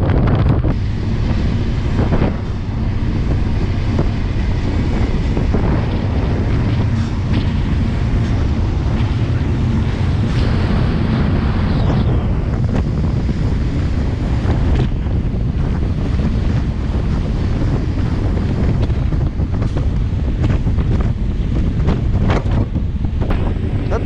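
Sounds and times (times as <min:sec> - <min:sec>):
train rumble: 0:00.0 - 0:24.0
wind buffeting microphone: 0:00.0 - 0:24.0.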